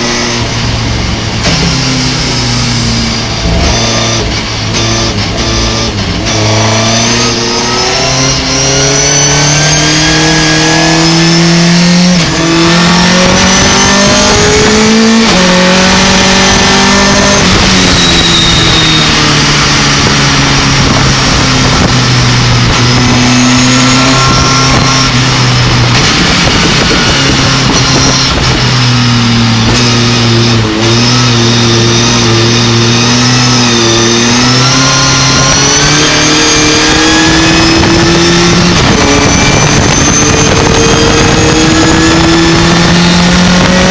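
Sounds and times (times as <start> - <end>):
truck engine accelerating hard: 0.0 - 43.9.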